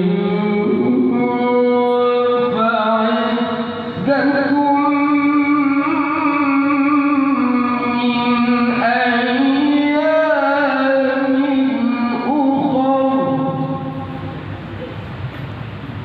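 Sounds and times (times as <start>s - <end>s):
man chanting through loudspeaker: 0.0s - 14.4s.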